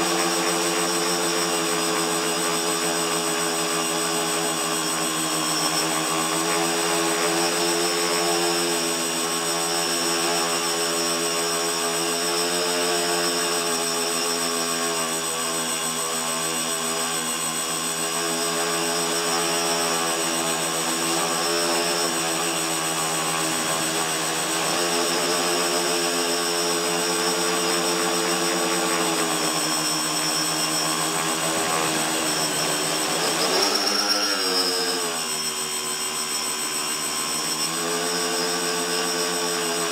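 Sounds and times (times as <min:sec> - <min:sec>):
electric motors and propellers whining: 0:00.0 - 0:39.9.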